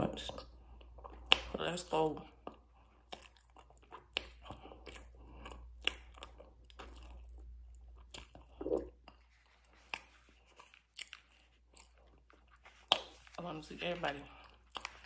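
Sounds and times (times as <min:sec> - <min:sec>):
chewing crunches: 0:00.3 - 0:13.4, 0:14.2 - 0:15.0.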